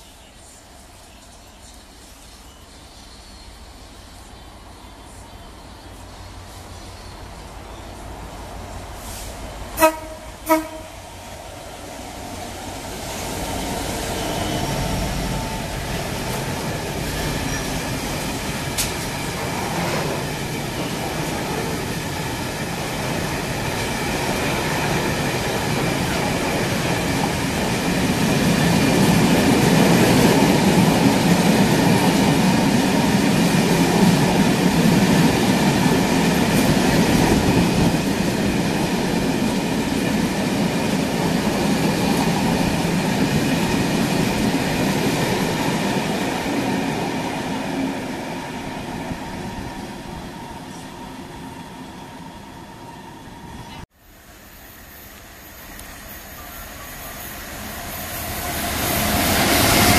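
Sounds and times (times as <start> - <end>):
diesel locomotive passing: 0.0 - 59.9.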